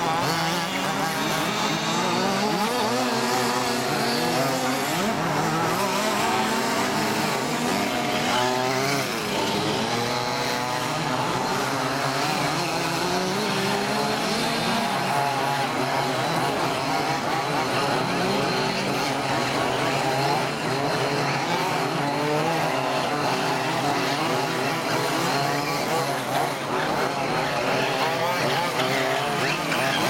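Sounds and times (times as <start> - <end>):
small two-stroke engines revving: 0.0 - 30.0.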